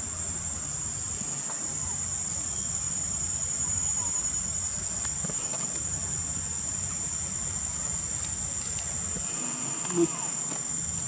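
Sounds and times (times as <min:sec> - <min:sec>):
insects chirping in chorus: 0:00.0 - 0:11.0.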